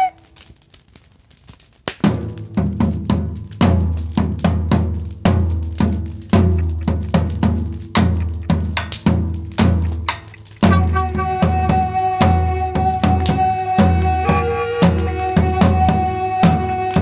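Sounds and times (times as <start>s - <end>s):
drum kit groove: 2.2s - 17.0s.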